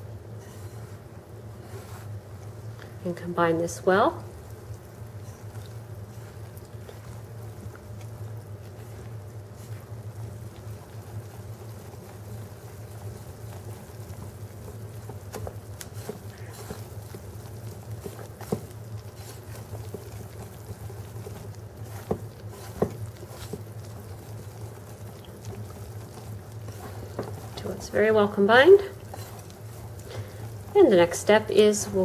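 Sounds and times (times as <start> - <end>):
whisk stirring batter: 3.8 - 32.0
whisk tapping bowl: 4.2 - 32.0.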